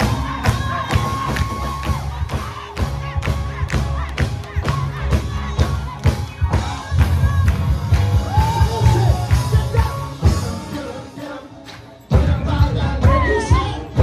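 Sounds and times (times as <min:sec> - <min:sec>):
congregation singing and shouting: 0:00.0 - 0:14.0
gospel band playing: 0:00.0 - 0:14.0
lead singer singing: 0:00.0 - 0:14.0.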